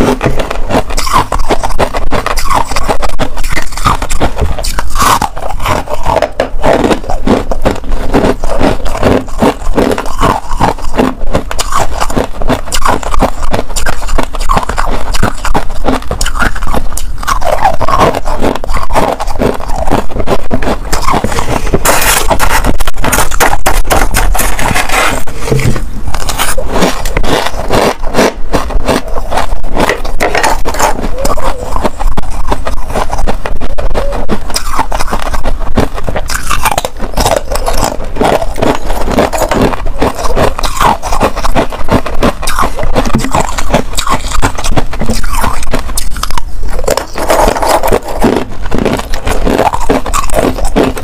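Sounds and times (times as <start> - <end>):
ice being chewed: 0.0 - 51.0.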